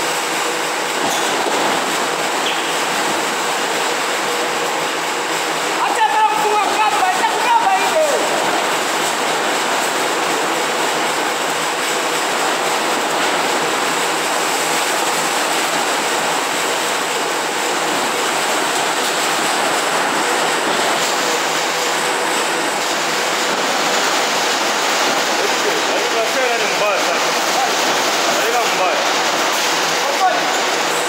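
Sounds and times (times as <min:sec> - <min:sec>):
heavy rain downpour: 0:00.0 - 0:31.0.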